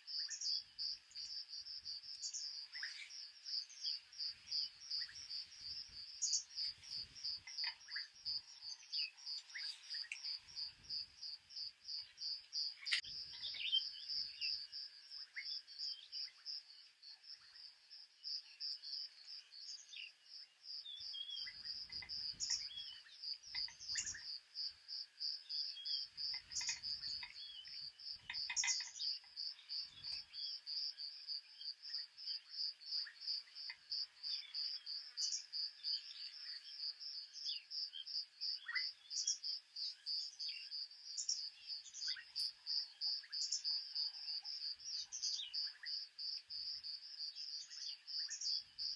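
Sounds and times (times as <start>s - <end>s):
bird chirps: 0.0s - 16.7s, 18.4s - 48.9s
cricket chirping: 0.0s - 48.9s.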